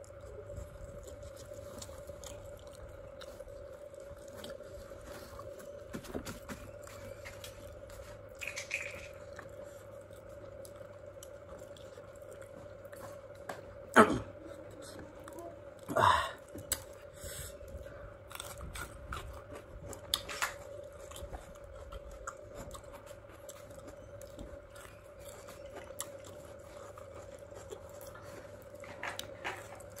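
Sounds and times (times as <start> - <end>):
faint steady hum: 0.0 - 30.0
mouth chewing and smacking: 0.0 - 30.0.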